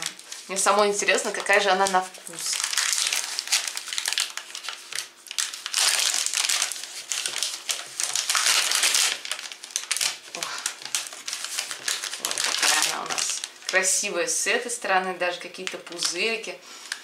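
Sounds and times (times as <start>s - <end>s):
wrapper and foil crinkling: 0.0s - 14.8s, 15.4s - 17.0s.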